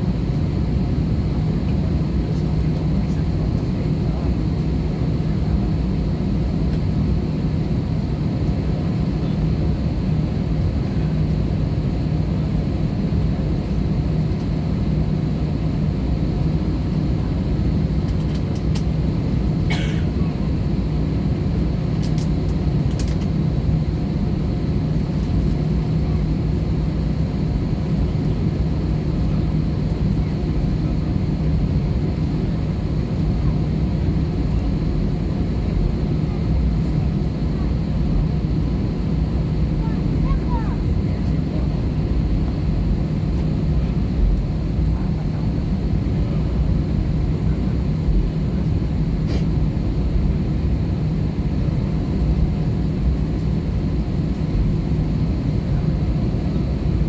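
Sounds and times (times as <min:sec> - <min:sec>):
jet engine drone and airflow: 0:00.0 - 0:57.0.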